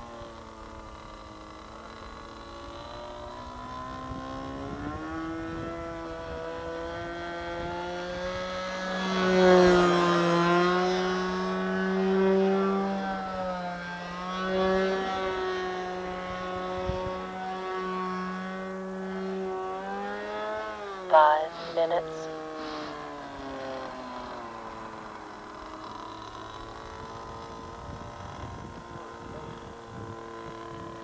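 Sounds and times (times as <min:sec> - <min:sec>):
model plane engine buzzing: 0:00.0 - 0:31.0.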